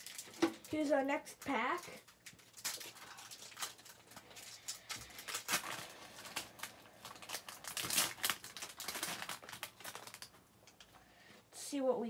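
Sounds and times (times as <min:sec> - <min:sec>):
foil wrapper crinkling and tearing: 0:00.0 - 0:10.8.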